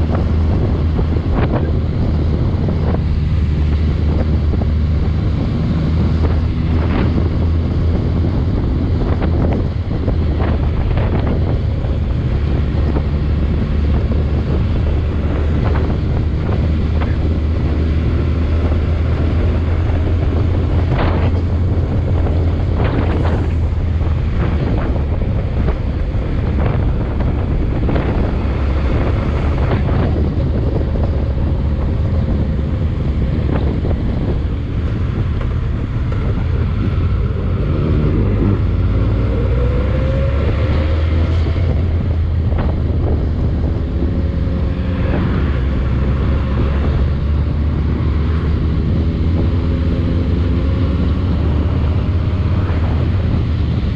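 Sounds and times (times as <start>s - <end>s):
vehicle engine rumble: 0.0s - 53.9s
wind noise on microphone: 0.0s - 53.9s.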